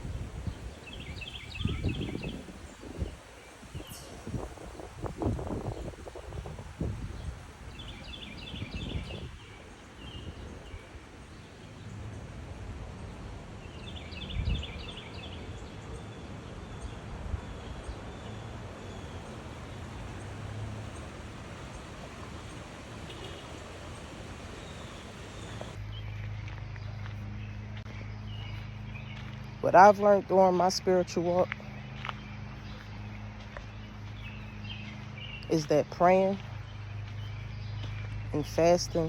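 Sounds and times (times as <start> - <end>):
low outdoor rumble: 0.0 - 39.0
songbird singing: 0.0 - 39.0.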